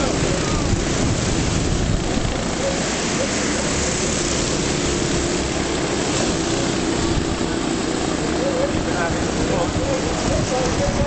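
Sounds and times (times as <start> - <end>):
racing car engines: 0.0 - 11.0.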